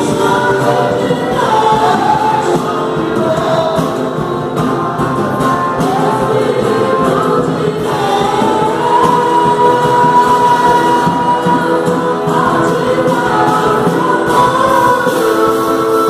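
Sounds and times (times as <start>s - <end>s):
choir singing gospel: 0.0s - 16.0s.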